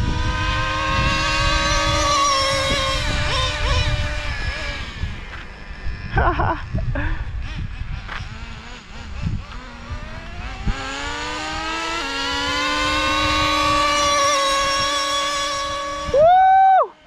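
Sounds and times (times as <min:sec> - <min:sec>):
small two-stroke engine whining: 0:00.0 - 0:17.0.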